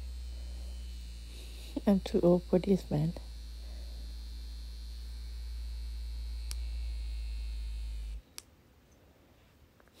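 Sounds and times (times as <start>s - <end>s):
vibration motor humming: 0.0s - 8.2s.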